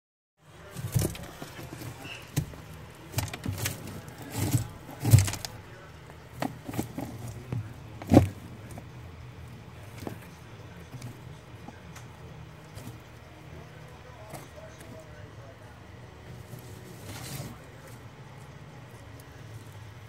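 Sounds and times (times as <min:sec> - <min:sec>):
lizard rustling through wood chips: 0:00.4 - 0:20.0
low steady hum: 0:00.4 - 0:20.0.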